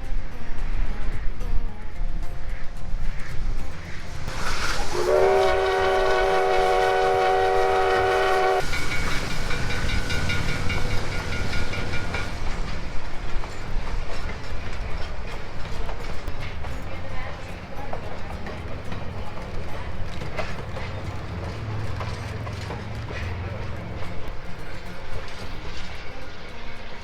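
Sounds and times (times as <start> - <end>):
train rumbling: 0.0 - 27.0
steam locomotive whistle: 3.8 - 27.0.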